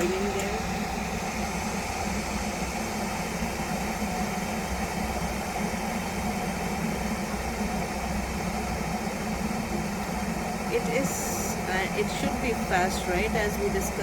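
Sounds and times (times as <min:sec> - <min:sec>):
electric kettle heating water: 0:00.0 - 0:14.0.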